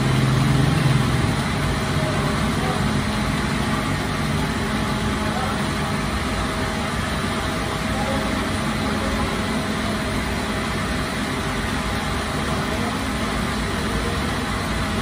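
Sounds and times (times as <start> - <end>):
bakery machinery drone: 0.0 - 15.0.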